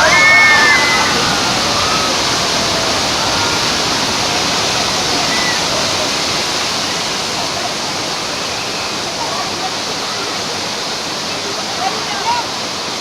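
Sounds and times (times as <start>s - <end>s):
faint voices: 0.0s - 13.0s
loud rush of water: 0.0s - 13.0s.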